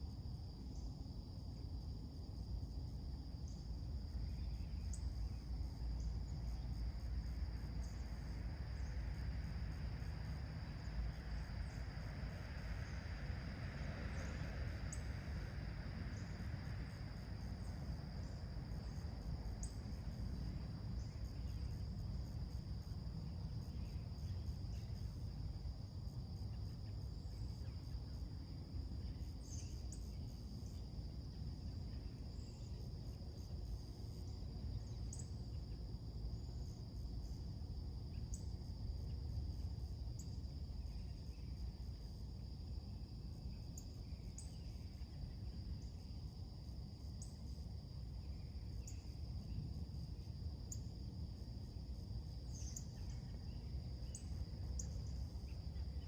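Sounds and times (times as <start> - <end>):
crickets chirping: 0.0 - 56.0
low steady rumble: 0.1 - 56.0.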